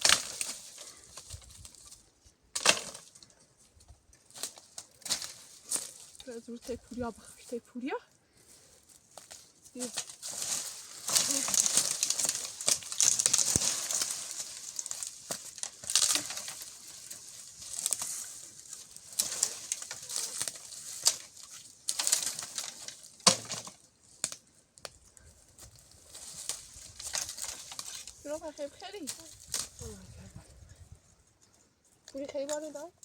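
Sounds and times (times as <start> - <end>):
twigs snapping: 0.0 - 6.4, 9.0 - 28.2, 29.0 - 30.0
brush and twigs rustling: 0.0 - 33.0.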